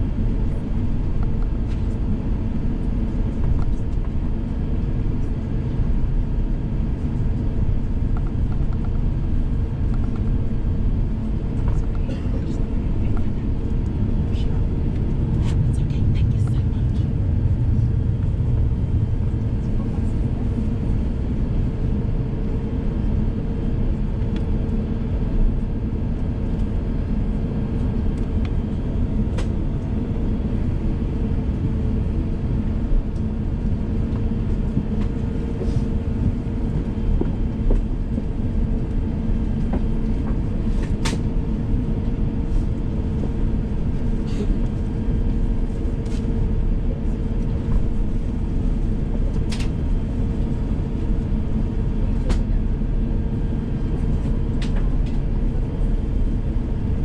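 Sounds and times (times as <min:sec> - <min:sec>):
aircraft cabin rumble: 0:00.0 - 0:57.0
constant hum: 0:00.0 - 0:57.0.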